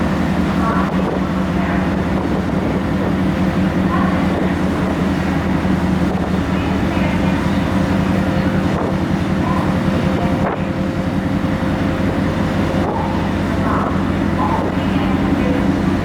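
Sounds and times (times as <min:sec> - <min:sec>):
ferry engines droning: 0:00.0 - 0:16.0
wind buffeting microphone: 0:00.0 - 0:16.0.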